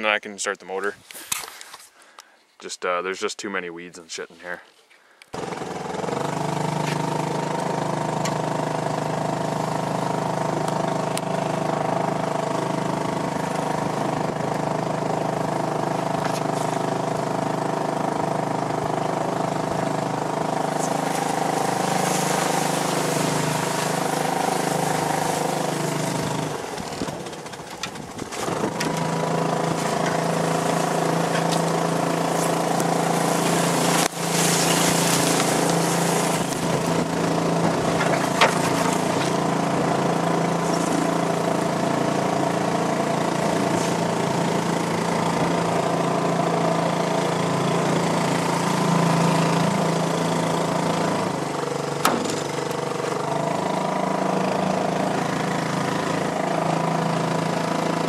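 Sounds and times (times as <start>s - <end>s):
outboard motor running: 5.3s - 58.0s.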